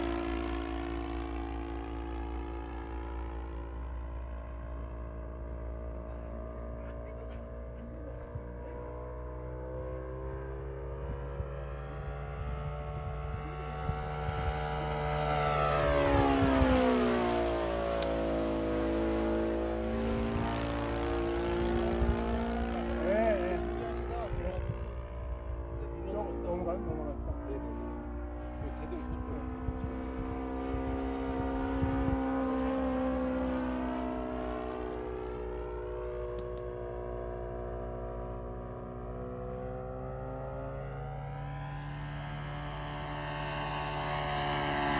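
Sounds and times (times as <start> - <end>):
model plane engine and propeller: 0.0 - 44.9.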